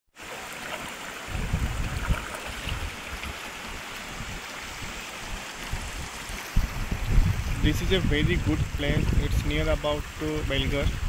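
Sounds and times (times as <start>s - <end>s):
river water rushing: 0.2s - 10.5s
low water rumble: 0.2s - 11.0s.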